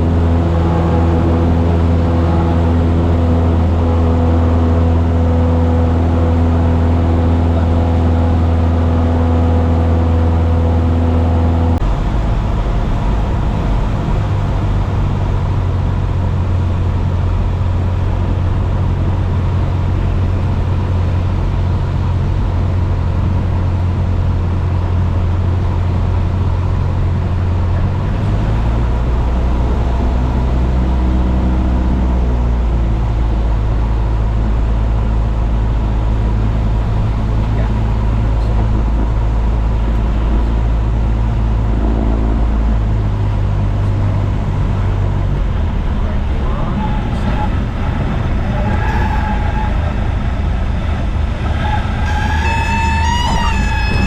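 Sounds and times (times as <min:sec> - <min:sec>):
piston aircraft engine and propeller: 0:00.0 - 0:54.0.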